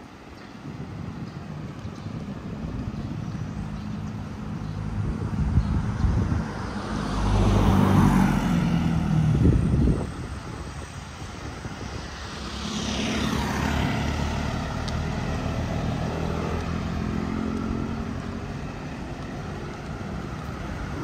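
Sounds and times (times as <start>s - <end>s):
vehicle engines passing by: 0.0s - 21.0s.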